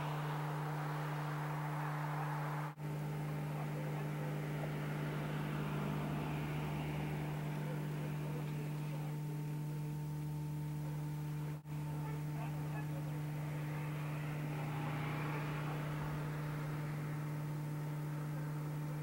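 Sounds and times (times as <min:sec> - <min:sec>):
faint steady tones: 0:00.0 - 0:19.0
road noise: 0:00.0 - 0:19.0
steady low hum: 0:00.0 - 0:19.0.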